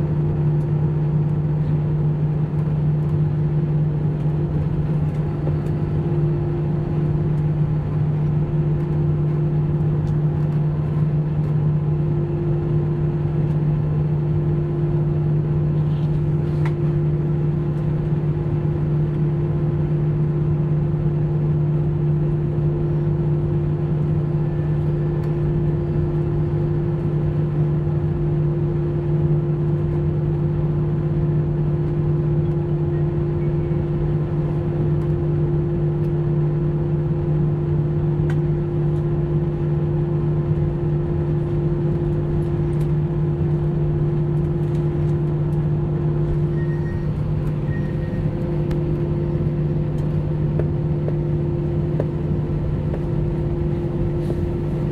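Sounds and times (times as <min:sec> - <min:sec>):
jet engine drone in cabin: 0:00.0 - 0:54.9.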